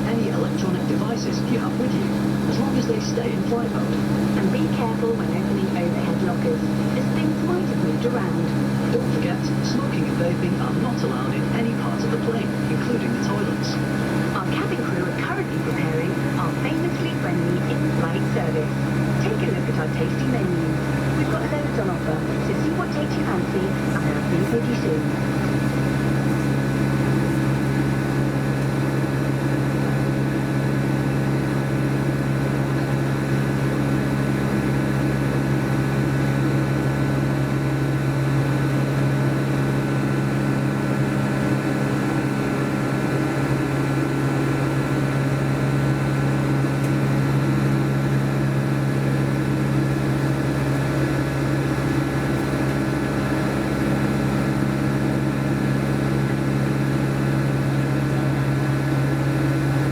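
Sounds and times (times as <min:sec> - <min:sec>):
jet engines humming: 0:00.0 - 0:59.9.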